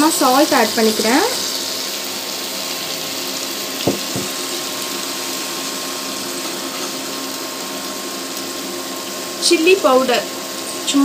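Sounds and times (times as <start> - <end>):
food sizzling in pan: 0.0 - 11.0.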